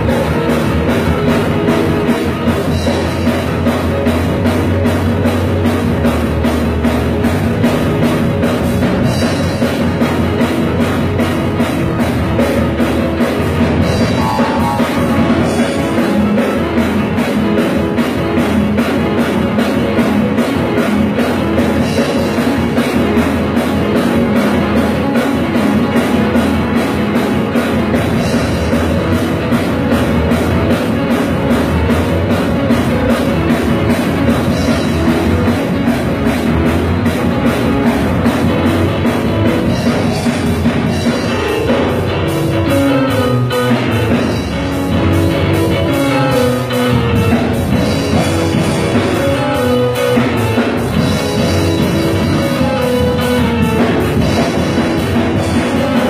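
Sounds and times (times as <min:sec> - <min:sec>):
drum kit: 0:00.0 - 0:56.0
electric keyboard: 0:00.0 - 0:56.0.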